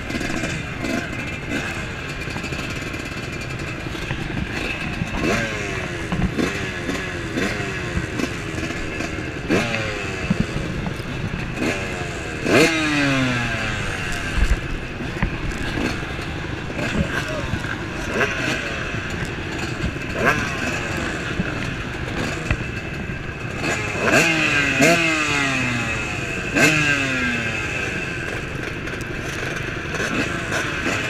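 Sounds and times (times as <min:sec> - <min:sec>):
engine throttle blips: 0:00.0 - 0:31.0
motocross bike engines idling: 0:00.0 - 0:31.0.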